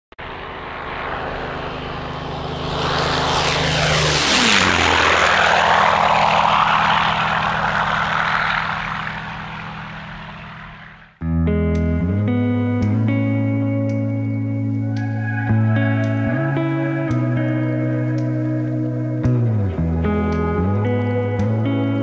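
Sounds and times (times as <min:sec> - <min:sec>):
propeller airplane flying past: 0:00.2 - 0:11.2, 0:12.3 - 0:22.0.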